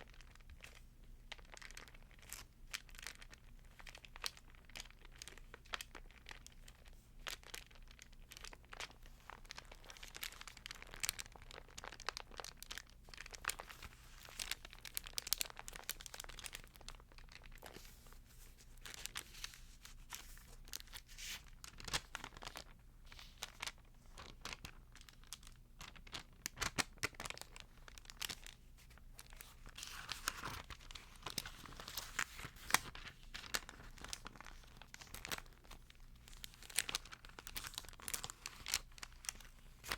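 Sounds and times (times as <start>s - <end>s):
thin pages crinkling and rustling: 0.0s - 39.9s.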